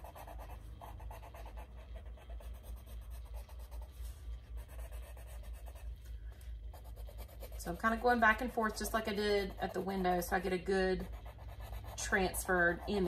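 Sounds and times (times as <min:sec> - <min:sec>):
pencil scratching on card: 0:00.0 - 0:13.0.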